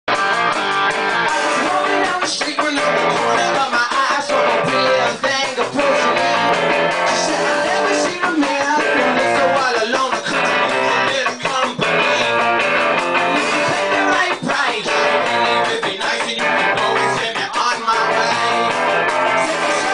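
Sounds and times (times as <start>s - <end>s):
bass guitar: 0.0s - 19.9s
electric guitar: 0.1s - 19.9s
man singing into microphone: 1.3s - 12.4s, 13.4s - 19.9s.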